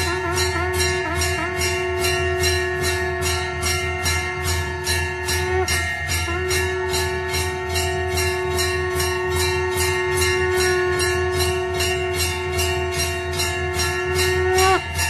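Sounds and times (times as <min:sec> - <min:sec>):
jingling percussion beat: 0:00.0 - 0:15.0
long held note: 0:00.0 - 0:15.0.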